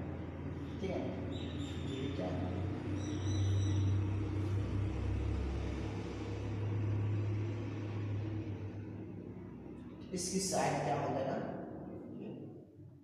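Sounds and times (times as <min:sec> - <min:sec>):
low steady rumble: 0:00.0 - 0:12.8.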